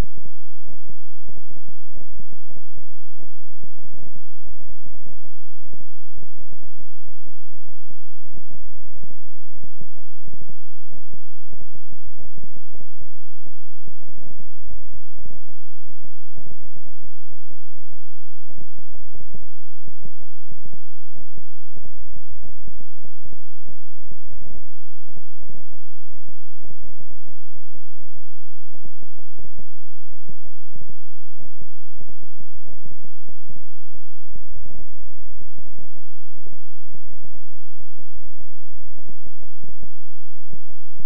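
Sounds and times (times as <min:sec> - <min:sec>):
steady low electronic hum: 0:00.0 - 0:41.0.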